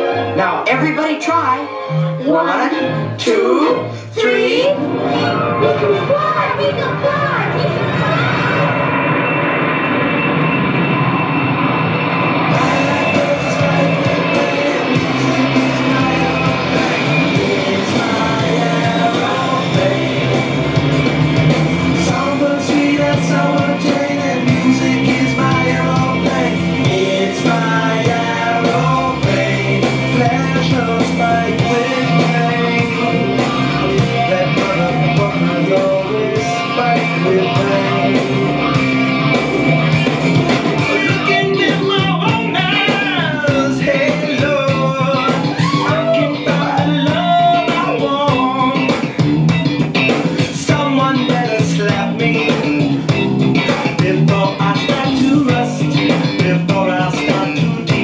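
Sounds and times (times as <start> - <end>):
loud rock music: 0.0 - 58.0.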